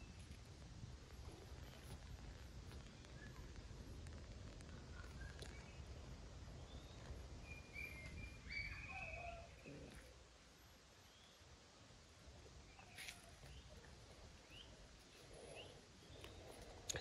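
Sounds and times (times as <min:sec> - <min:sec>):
faint low background rumble: 0:00.0 - 0:17.0.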